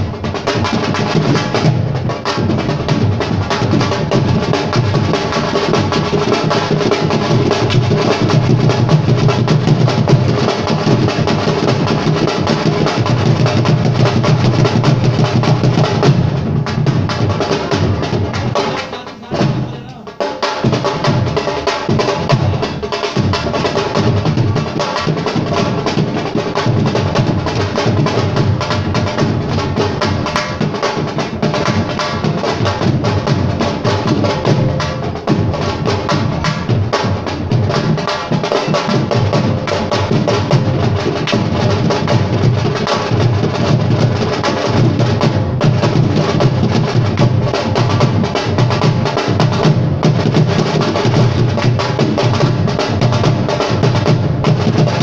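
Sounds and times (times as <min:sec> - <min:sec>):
fast hand-drumming: 0:00.0 - 0:55.0.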